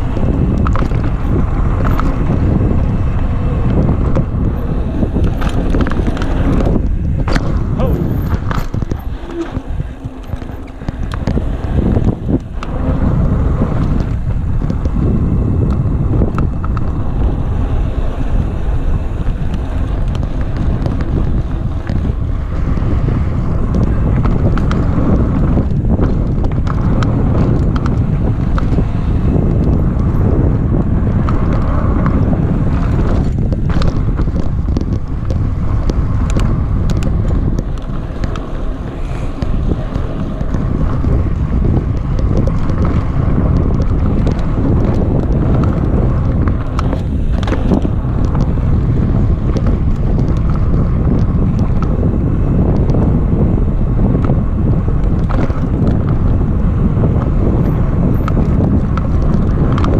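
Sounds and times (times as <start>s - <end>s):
bike rattling over bumps: 0.0s - 59.9s
tyre rumble: 0.0s - 59.9s
wind rushing over microphone: 0.0s - 59.9s.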